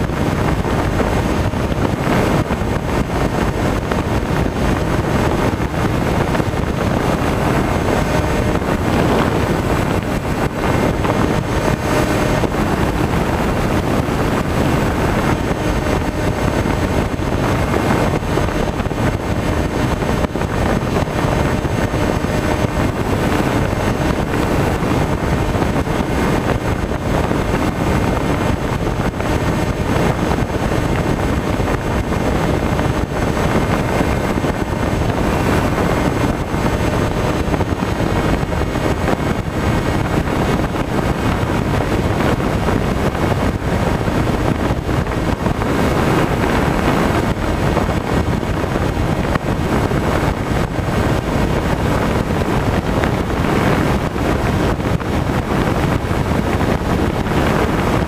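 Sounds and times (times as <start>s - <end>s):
propeller drone: 0.0s - 58.0s
wind rush: 0.0s - 58.0s.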